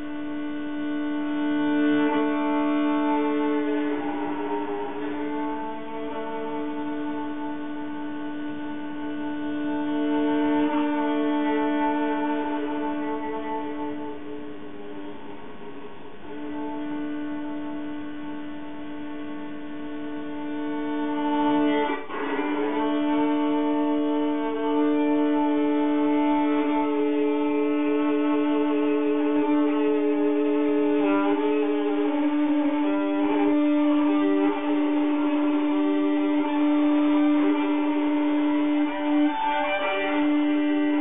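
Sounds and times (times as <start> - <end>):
solo violin: 0.0 - 41.0.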